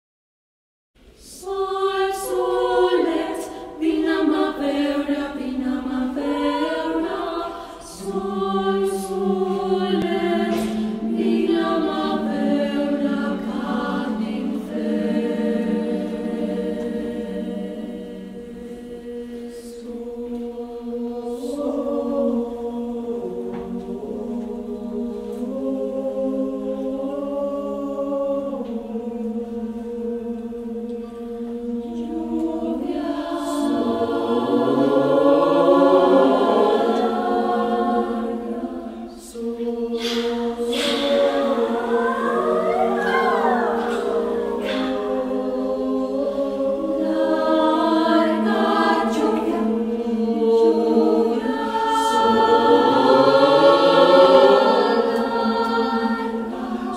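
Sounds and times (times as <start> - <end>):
mixed choir singing: 1.0 - 56.9.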